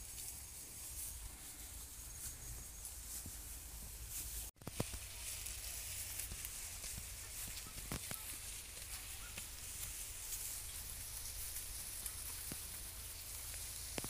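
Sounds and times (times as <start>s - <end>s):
high-pitched outdoor hiss: 0.0s - 14.0s.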